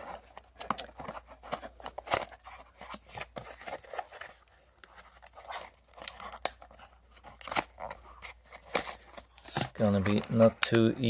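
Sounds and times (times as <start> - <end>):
packaging clicks and rustles: 0.0 - 11.0.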